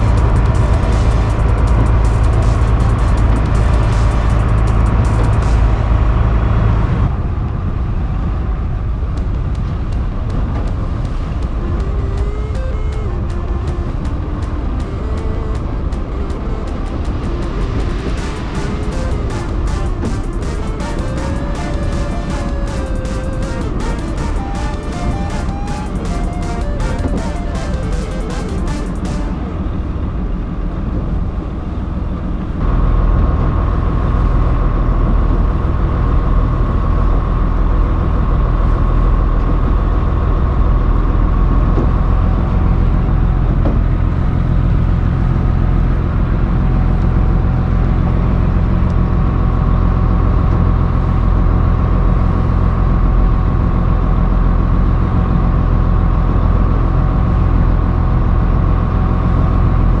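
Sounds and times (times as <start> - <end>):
boat engine droning: 0.0 - 60.0.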